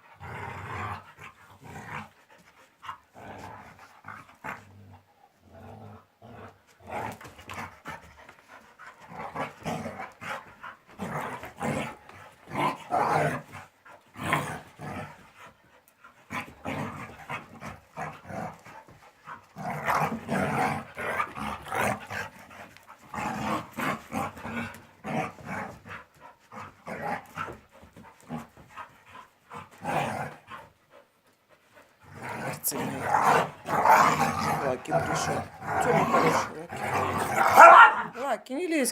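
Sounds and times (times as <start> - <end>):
dogs growling: 0.0 - 38.3
dogs panting: 1.0 - 4.6, 6.4 - 38.4.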